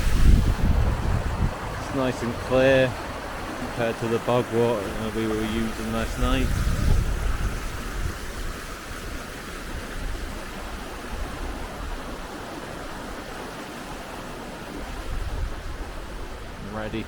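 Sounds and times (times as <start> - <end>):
low rumble of water: 0.0 - 17.0
stream water rushing: 0.0 - 17.0.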